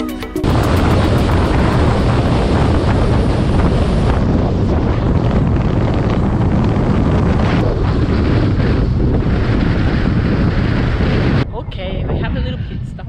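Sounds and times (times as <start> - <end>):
strong wind on microphone: 0.4 - 13.0.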